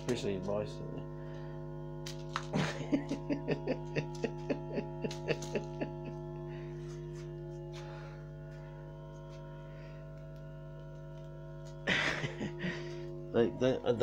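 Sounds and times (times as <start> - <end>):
held drone of tones: 0.0 - 14.0.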